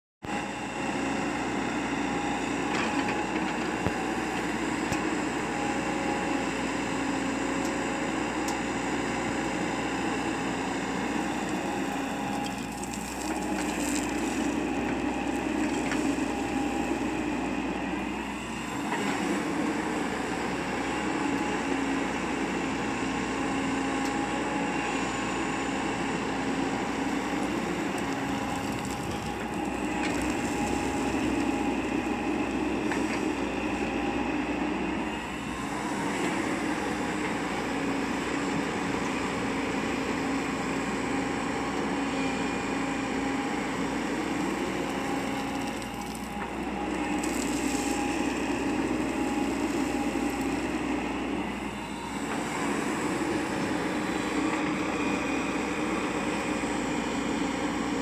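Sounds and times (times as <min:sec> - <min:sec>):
excavator diesel engine droning: 0:00.2 - 0:58.0.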